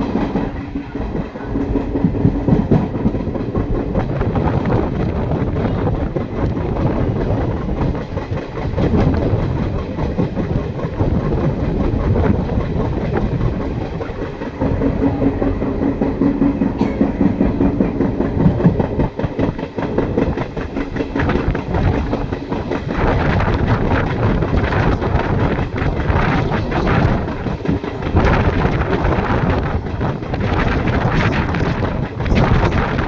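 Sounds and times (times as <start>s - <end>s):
train wheels clattering: 0.0s - 33.0s.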